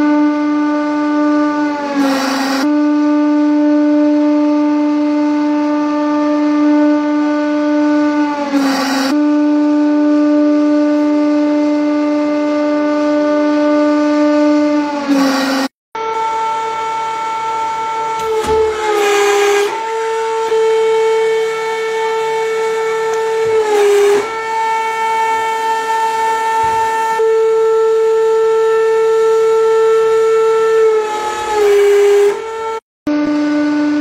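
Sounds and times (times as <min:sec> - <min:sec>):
hydraulic pump whining: 0:00.0 - 0:34.0.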